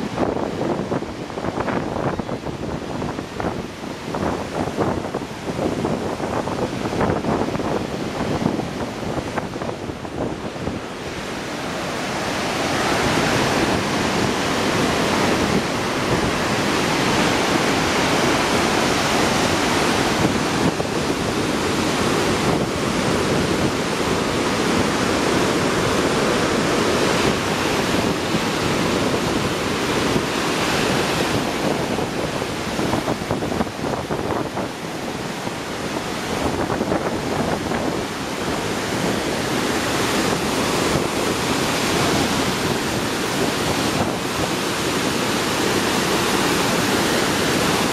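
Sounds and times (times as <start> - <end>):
water rushing through rapids: 0.0 - 47.9.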